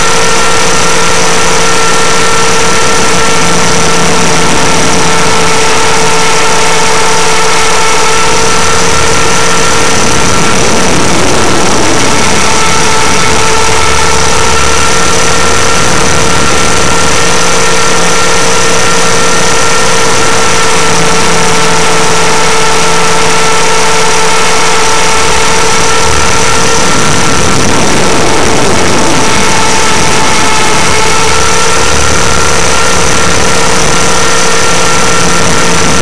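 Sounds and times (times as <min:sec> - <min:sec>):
rc helicopter motor whine: 0:00.0 - 0:36.0.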